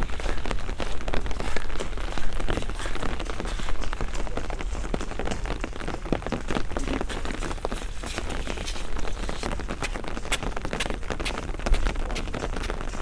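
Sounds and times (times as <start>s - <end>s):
rain drops ticking: 0.0s - 13.0s.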